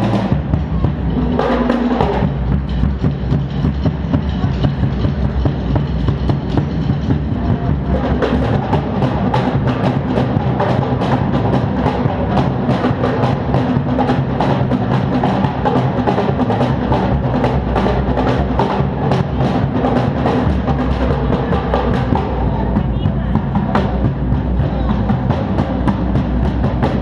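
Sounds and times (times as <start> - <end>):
drum kit playing fast: 0.0 - 27.0.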